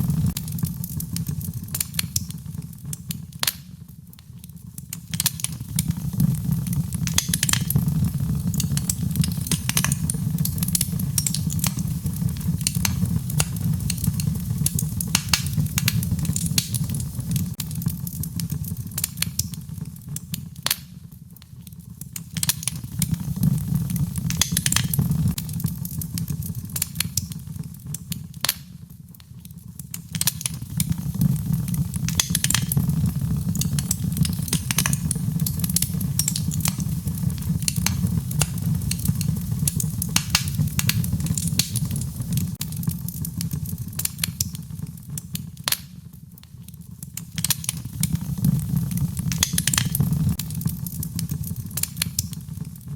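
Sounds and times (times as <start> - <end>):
low rumble of flame: 0.0 - 52.9
wood fire snapping and popping: 0.0 - 52.9.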